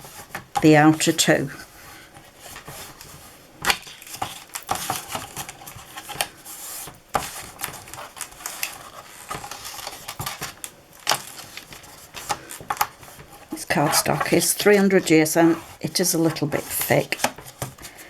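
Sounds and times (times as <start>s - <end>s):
card folding clicks and rustles: 0.0s - 18.0s.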